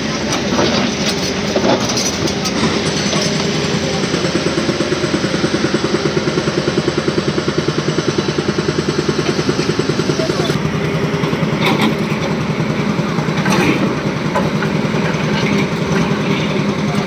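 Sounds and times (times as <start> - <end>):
heavy diesel engine pulsing: 0.0 - 17.0.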